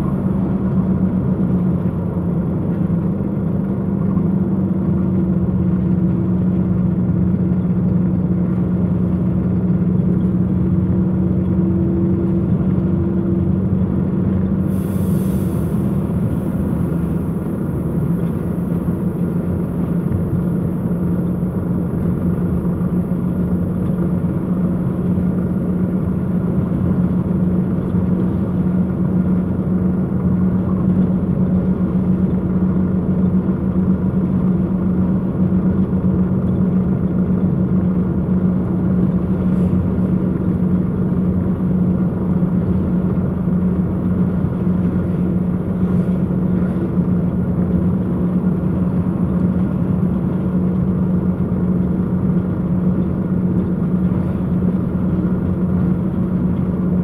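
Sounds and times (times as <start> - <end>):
road noise inside cab: 0.0 - 57.0
truck diesel engine drone: 0.0 - 57.0.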